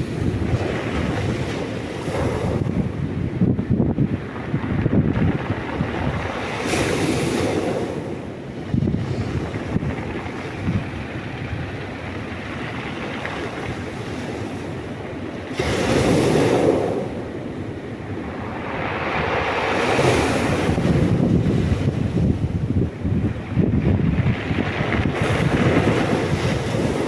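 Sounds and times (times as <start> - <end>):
waves breaking on shore: 0.0 - 27.0
wind on microphone: 0.0 - 27.0.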